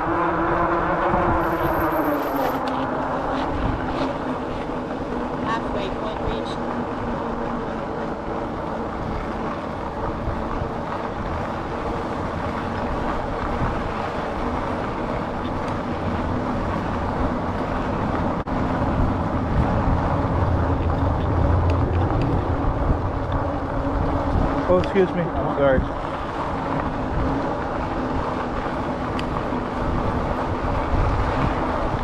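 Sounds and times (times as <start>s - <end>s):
bike tyre rumble: 0.0s - 32.0s
wind noise while riding: 0.0s - 32.0s.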